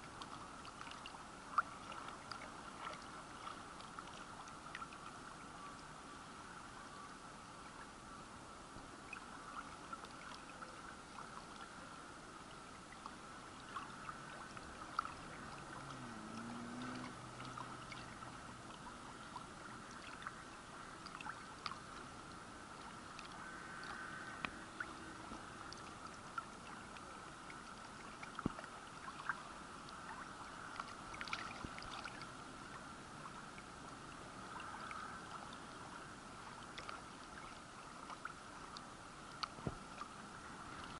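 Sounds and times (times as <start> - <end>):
water rippling and lapping: 0.0 - 40.9
water trickling: 0.0 - 40.9.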